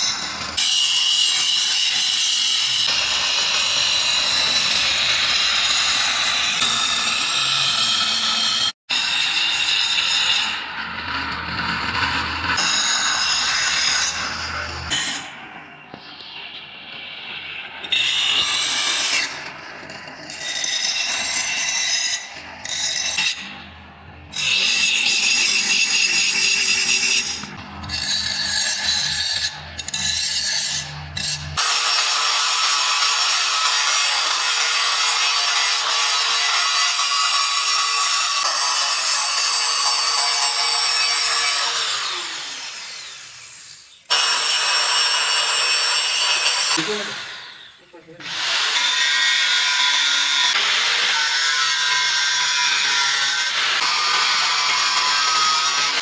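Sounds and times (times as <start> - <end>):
electric grinder grinding steel: 0.0 - 15.9, 16.9 - 56.0.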